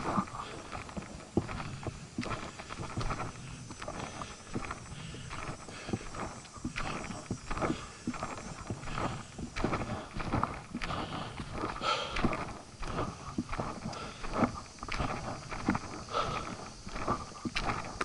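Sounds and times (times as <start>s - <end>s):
footsteps on rock and gravel: 0.0s - 18.0s.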